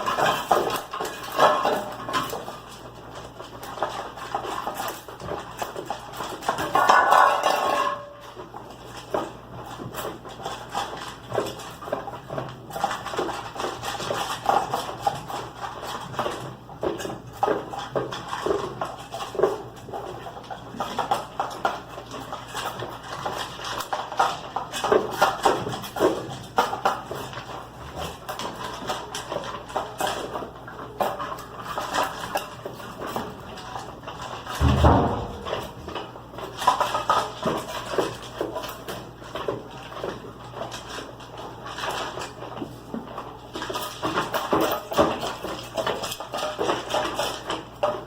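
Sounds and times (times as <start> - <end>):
food bowls clattering and scraping: 0.0 - 48.0.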